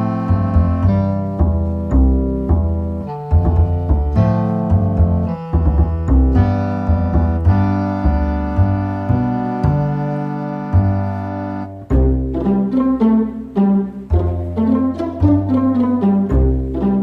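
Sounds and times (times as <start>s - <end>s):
piano playing chords: 0.0s - 17.0s.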